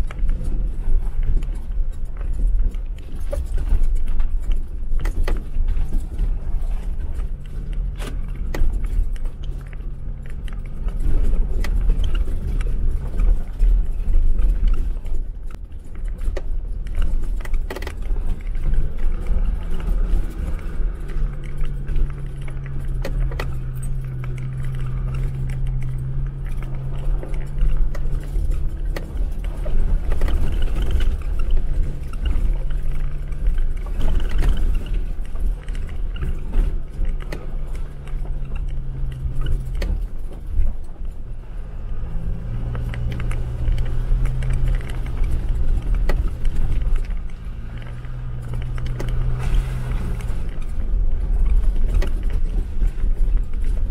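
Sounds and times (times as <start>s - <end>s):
heavy rumble: 0.0s - 53.9s
low engine drone: 0.0s - 53.9s.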